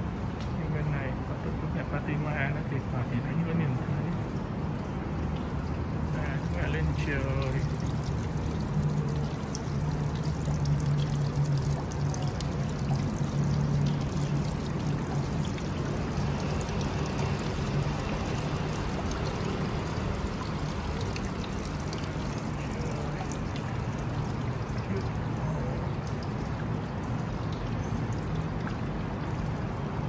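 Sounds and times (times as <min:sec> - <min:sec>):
water running: 0:05.2 - 0:30.0.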